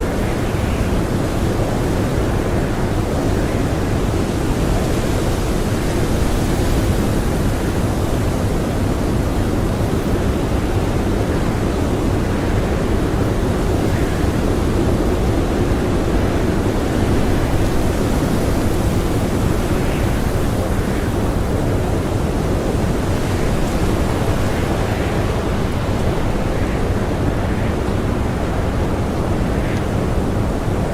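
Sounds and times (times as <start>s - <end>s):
blizzard wind rushing: 0.0s - 30.9s.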